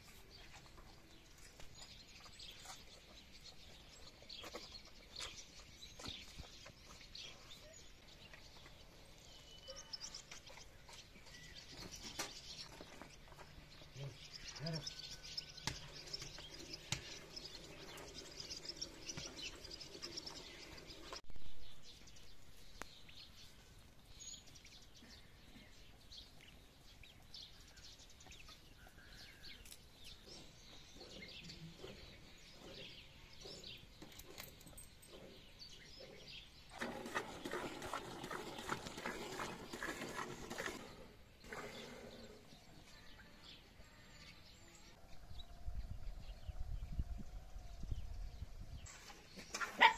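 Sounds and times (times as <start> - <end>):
animals shuffling on dirt: 0.0 - 21.2, 23.1 - 43.2
bird chirp: 0.0 - 49.9.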